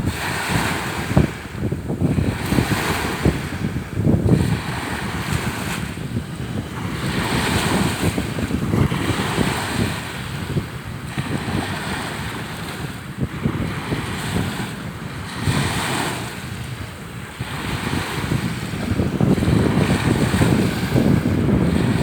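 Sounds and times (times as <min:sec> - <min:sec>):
sea waves washing onto shore: 0:00.0 - 0:22.0
wind buffeting microphone: 0:00.0 - 0:22.0.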